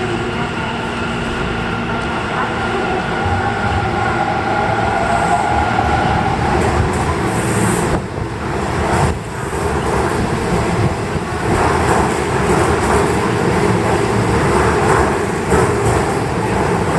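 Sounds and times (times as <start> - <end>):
electric train rumbling: 0.0 - 16.9.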